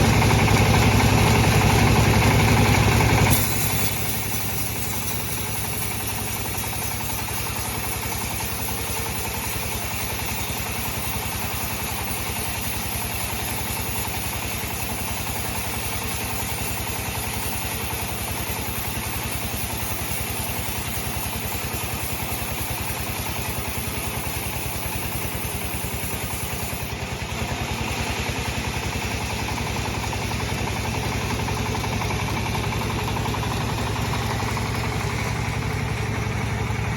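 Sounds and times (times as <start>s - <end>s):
sawmill machinery droning: 0.0s - 36.9s.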